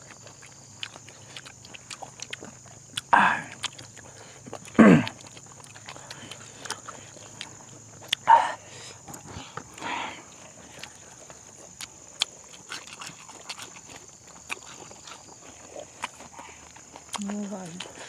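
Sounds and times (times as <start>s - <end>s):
chewing and lip-smacking: 0.0s - 18.0s.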